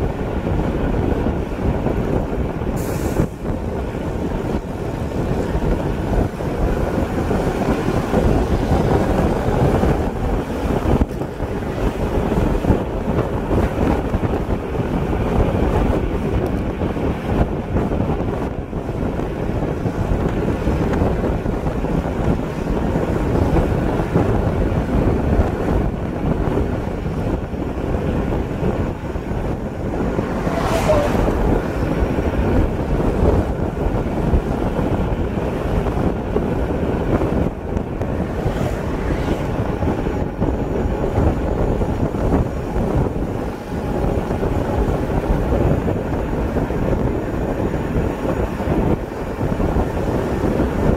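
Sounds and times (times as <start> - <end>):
road noise: 0.0 - 50.9
wind buffeting microphone: 0.0 - 50.9.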